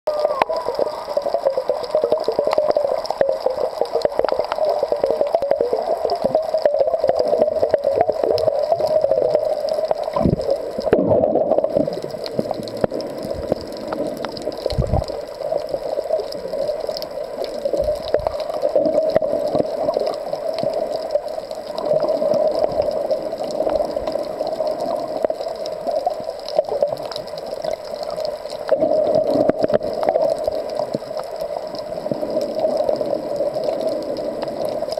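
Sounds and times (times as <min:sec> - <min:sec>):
muffled underwater rush: 0:00.1 - 0:34.9.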